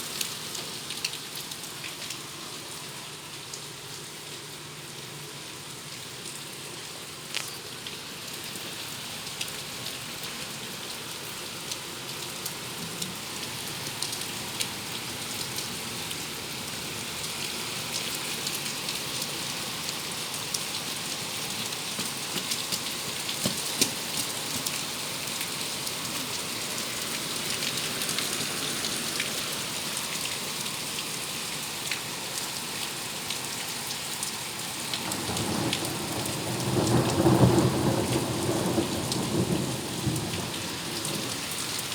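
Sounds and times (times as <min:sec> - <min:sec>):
raindrops ticking on surface: 0:00.0 - 0:41.9
steady rain falling: 0:00.0 - 0:41.9.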